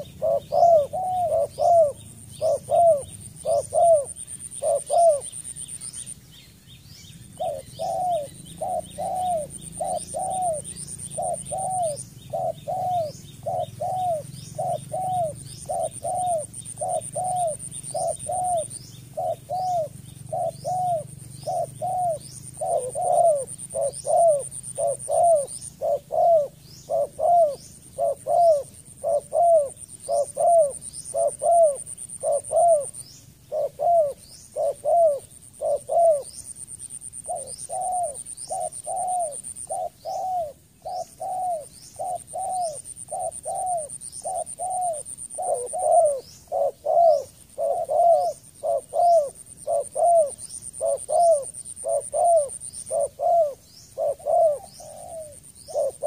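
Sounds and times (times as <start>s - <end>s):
dove cooing: 0.0s - 6.2s, 7.2s - 56.0s.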